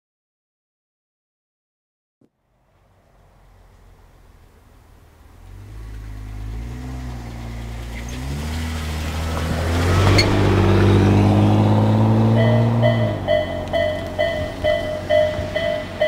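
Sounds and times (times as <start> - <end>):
car engines approaching: 2.3 - 16.0.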